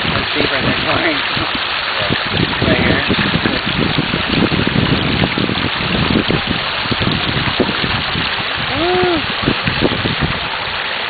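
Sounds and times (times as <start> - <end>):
wind buffeting microphone: 0.0 - 10.9
creek water rushing over rocks: 0.0 - 11.0.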